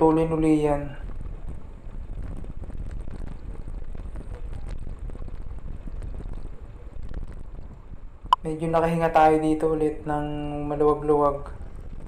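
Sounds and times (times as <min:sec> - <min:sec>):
low road rumble: 0:00.0 - 0:12.0
wind buffeting microphone: 0:00.0 - 0:12.0.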